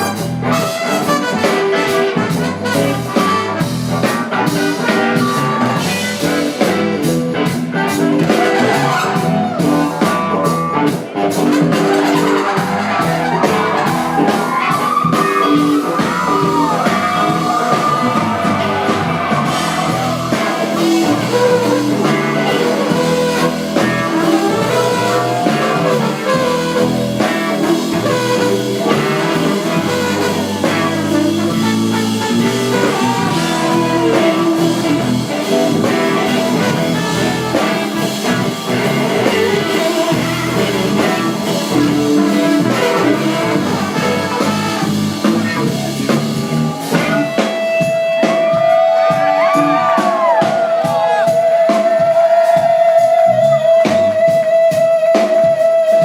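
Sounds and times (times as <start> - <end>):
blues rock band playing: 0.0 - 56.0
sliding lead guitar line: 0.0 - 56.0.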